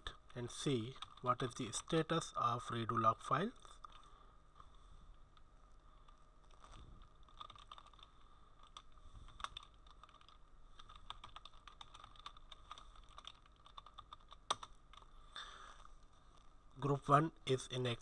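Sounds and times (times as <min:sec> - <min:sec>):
faint typing on keyboard: 0:00.0 - 0:16.5.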